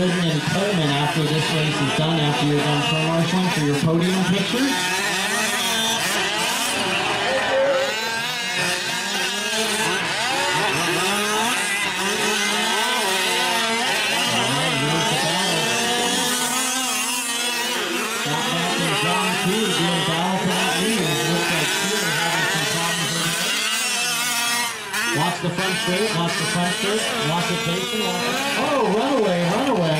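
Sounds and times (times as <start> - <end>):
small two-stroke engines revving: 0.0 - 29.9.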